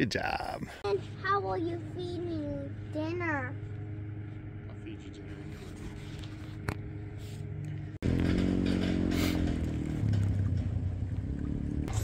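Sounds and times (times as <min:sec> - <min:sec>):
outboard motor humming: 0:00.9 - 0:12.0.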